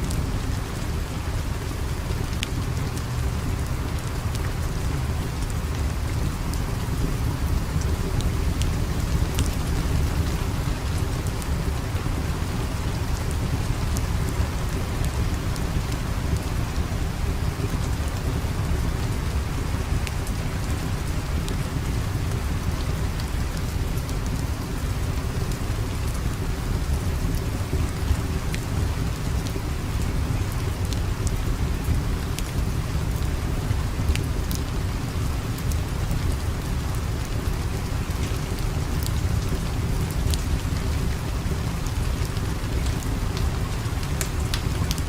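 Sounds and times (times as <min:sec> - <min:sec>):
fire crackling: 0:00.0 - 0:45.0
steady rain: 0:00.0 - 0:45.0.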